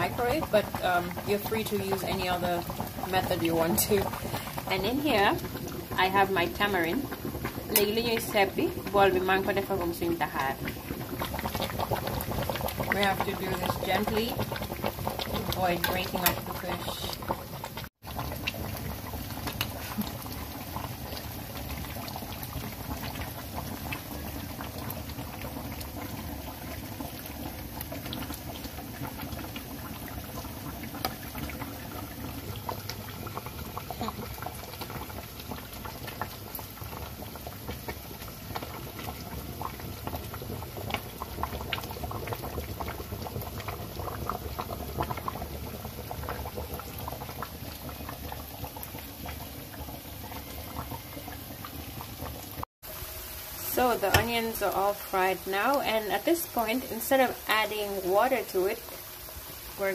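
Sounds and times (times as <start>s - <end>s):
stew bubbling in a pot: 0.0s - 59.9s.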